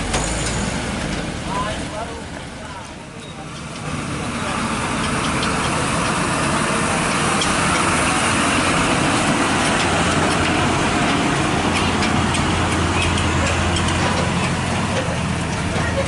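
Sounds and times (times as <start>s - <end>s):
heavy truck engine: 0.0s - 16.0s
road and traffic noise: 0.0s - 16.0s.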